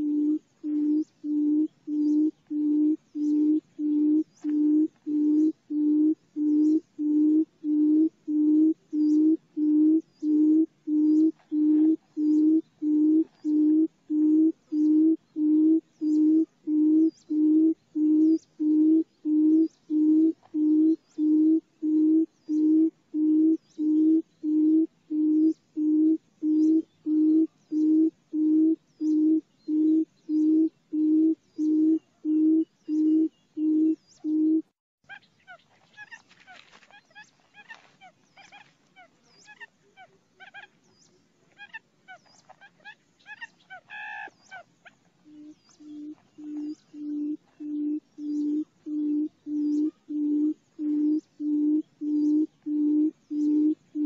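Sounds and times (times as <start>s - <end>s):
bird booming low hoots: 0.0s - 34.7s, 45.3s - 54.0s.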